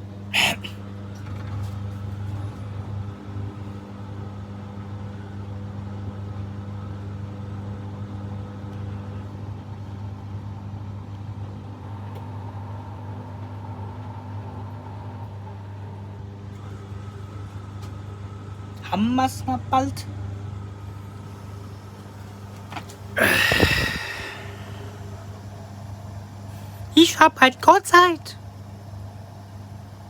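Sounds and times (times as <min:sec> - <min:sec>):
washing machine hum: 0:00.0 - 0:30.0.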